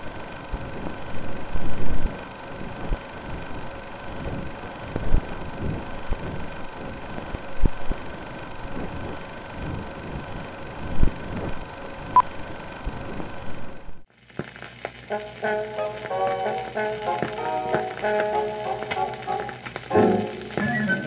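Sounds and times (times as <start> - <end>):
film reel hiss and crackle: 0.0 - 21.0.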